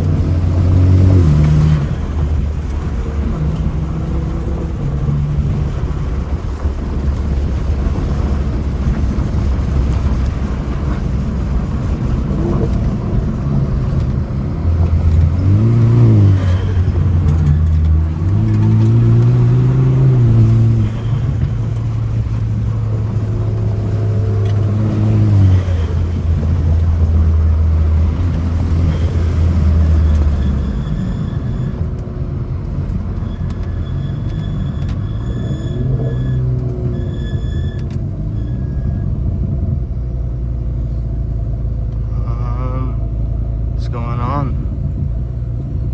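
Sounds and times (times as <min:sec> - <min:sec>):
car engine accelerating: 0:00.0 - 0:45.9
road noise: 0:00.0 - 0:45.9.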